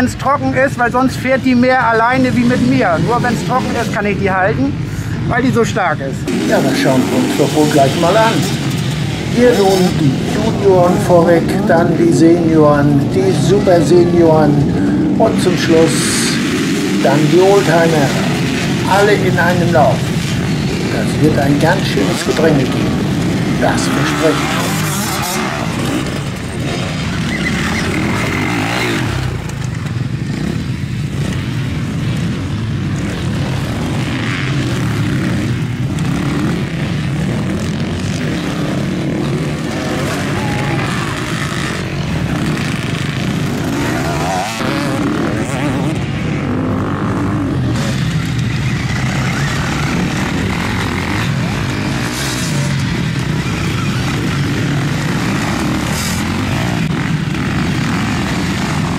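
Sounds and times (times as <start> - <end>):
motocross motorcycles revving: 0.0 - 58.9.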